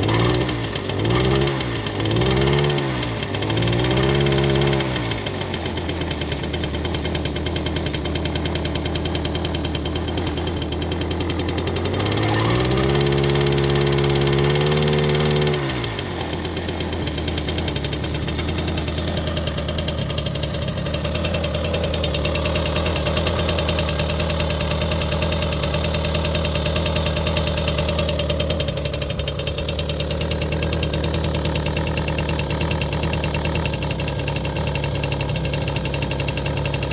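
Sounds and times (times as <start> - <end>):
moped engine revving and idling: 0.0 - 36.9.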